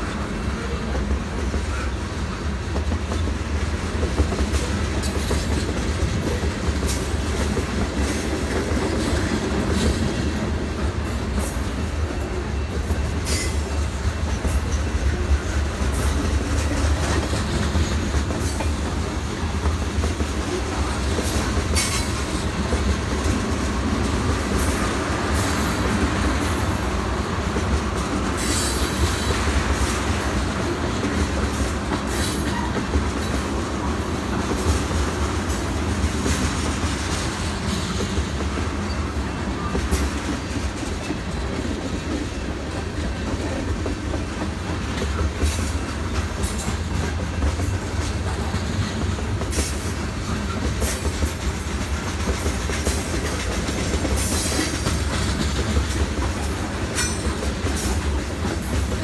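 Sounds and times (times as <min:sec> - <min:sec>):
clickety-clack over rail joints: 0:00.0 - 0:59.0
train wheels rumbling on rail: 0:00.0 - 0:59.0.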